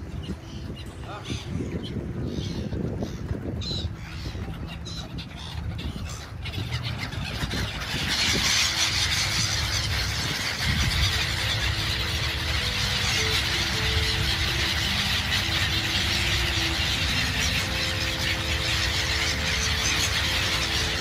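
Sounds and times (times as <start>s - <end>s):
flock of gulls calling: 0.0s - 21.0s.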